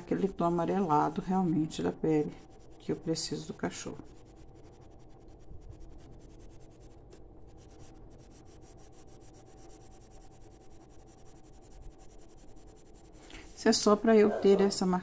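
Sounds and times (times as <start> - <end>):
colored pencil scratching on paper: 0.0 - 15.0.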